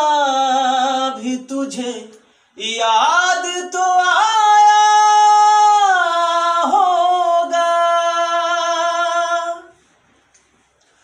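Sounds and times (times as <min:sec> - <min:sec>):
man singing unaccompanied: 0:00.0 - 0:09.8.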